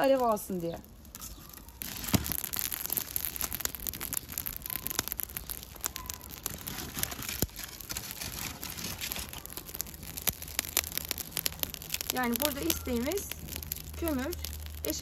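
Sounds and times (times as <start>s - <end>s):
charcoal fire crackling and popping: 0.0s - 15.0s.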